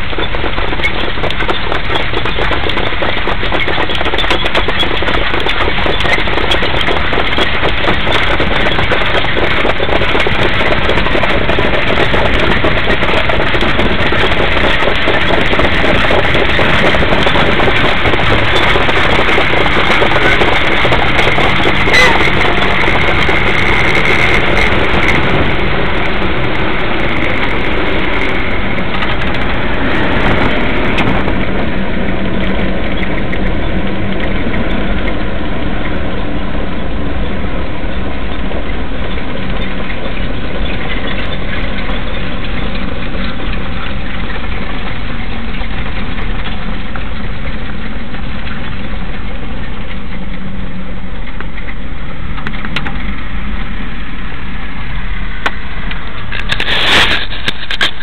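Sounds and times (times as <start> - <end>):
car engine running: 0.0 - 58.0
road and wind noise: 0.0 - 58.0.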